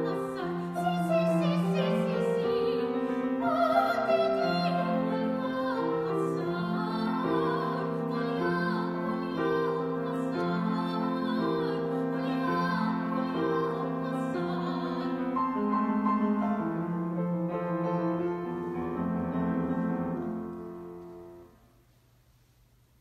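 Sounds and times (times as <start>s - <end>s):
classical singing with vibrato: 0.0s - 21.5s
piano chords: 0.0s - 21.8s.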